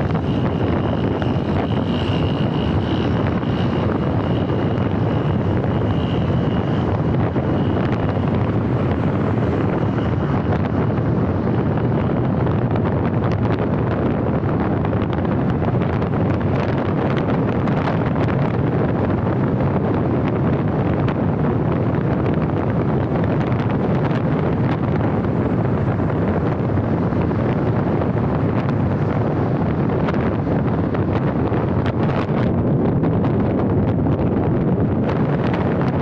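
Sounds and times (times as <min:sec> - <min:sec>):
car tyre and road noise: 0:00.0 - 0:36.0
wind rushing over microphone: 0:00.0 - 0:36.0.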